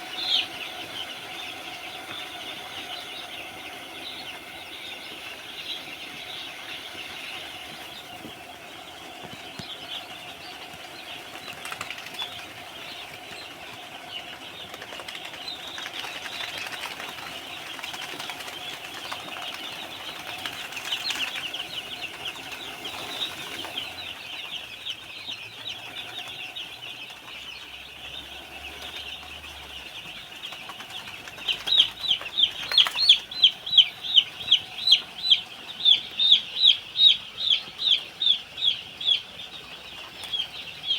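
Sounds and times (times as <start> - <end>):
loud repeated peeping: 0.0 - 13.6, 14.2 - 40.9
chicks peeping: 0.0 - 40.9.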